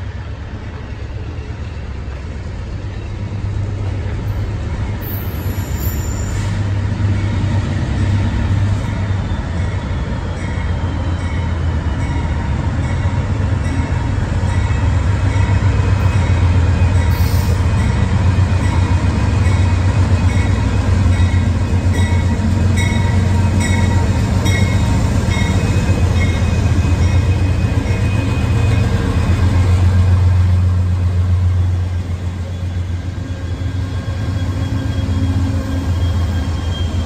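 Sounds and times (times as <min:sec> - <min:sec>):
diesel locomotive engine rumble: 0:00.0 - 0:37.0.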